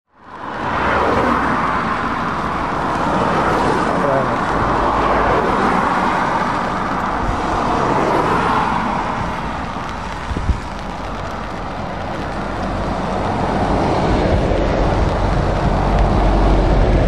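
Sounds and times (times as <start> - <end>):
trucks driving past: 0.2 - 17.0.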